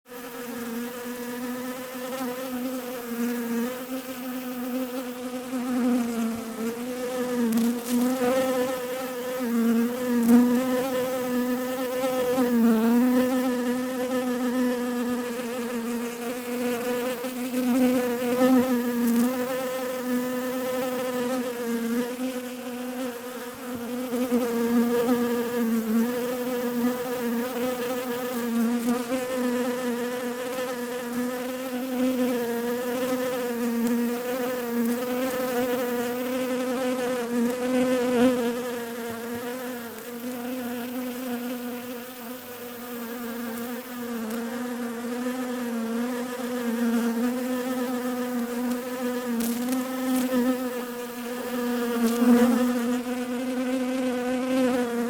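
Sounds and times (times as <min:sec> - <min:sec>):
bees buzzing: 0:00.1 - 0:55.0.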